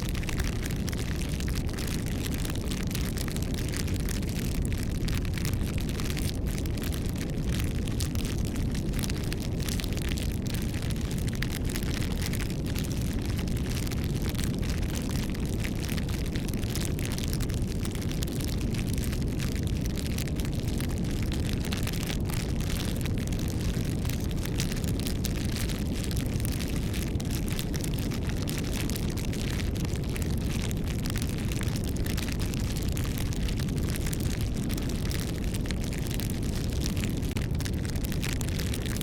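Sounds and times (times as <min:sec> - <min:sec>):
fire popping and crackling: 0:00.0 - 0:39.0
wood fire rushing flame: 0:00.0 - 0:39.0.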